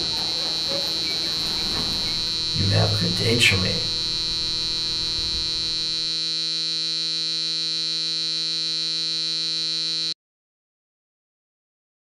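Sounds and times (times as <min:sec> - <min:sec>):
steady electronic buzz: 0:00.0 - 0:10.2.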